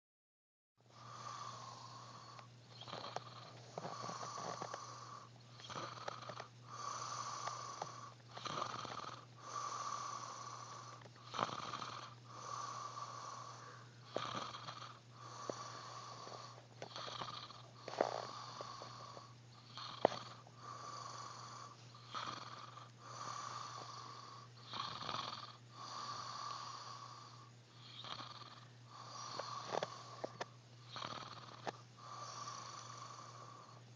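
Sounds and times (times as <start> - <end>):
steady low hum: 0.8 - 33.9
man snoring: 0.9 - 33.8.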